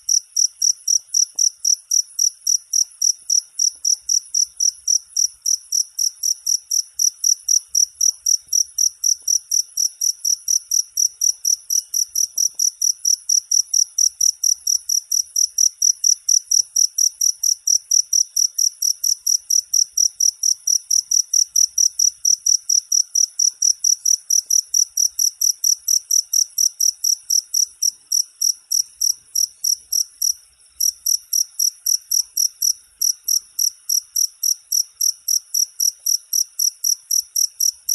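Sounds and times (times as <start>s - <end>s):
cricket chirping: 0.0s - 37.9s.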